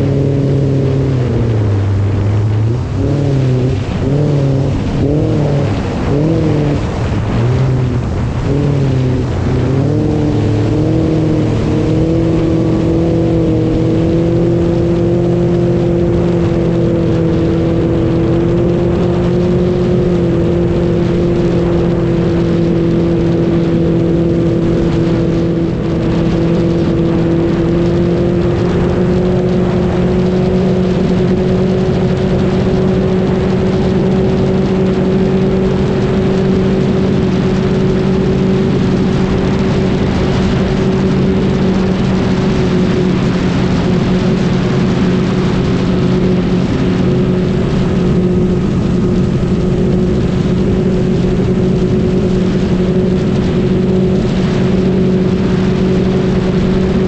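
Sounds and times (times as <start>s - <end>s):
vehicle engine droning: 0.0s - 57.0s.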